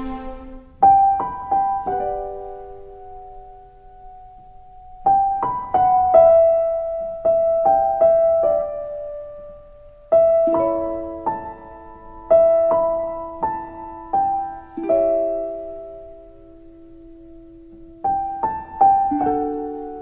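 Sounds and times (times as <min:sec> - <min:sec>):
slow solo piano melody: 0:00.0 - 0:20.0.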